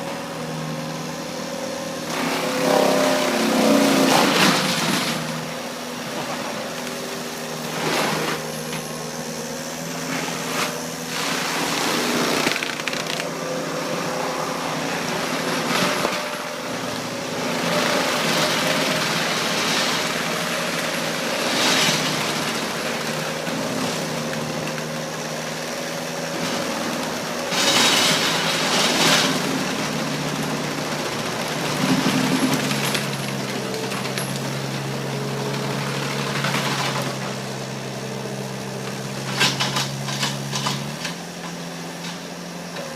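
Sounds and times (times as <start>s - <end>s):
mulching drum grinding wood: 0.0s - 42.9s
skid steer engine under load: 0.0s - 42.9s.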